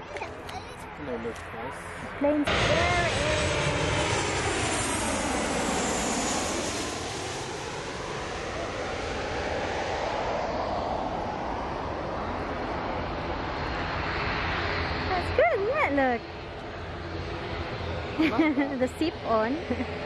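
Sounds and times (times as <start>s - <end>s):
high engine whine: 0.0s - 20.0s
jet engines roaring: 0.0s - 20.0s.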